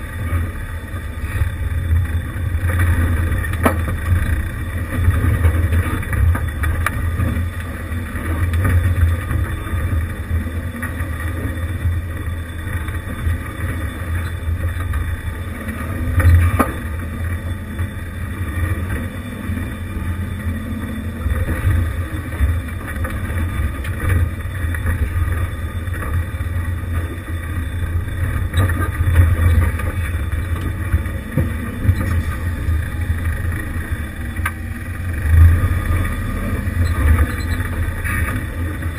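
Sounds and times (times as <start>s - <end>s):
car engine running low: 0.0s - 38.9s.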